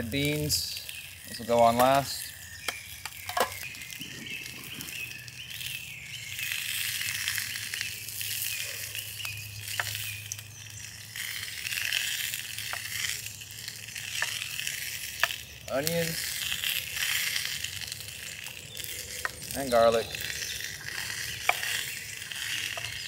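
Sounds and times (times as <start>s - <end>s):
sausage sizzling in a skillet: 0.0s - 23.0s.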